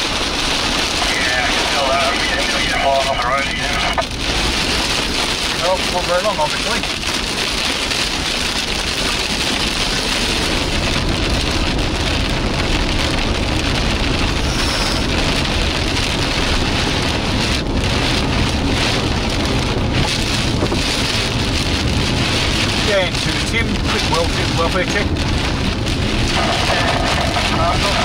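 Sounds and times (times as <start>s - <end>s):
heavy rain on car roof: 0.0s - 28.0s
wet-road tyre noise: 0.0s - 28.0s.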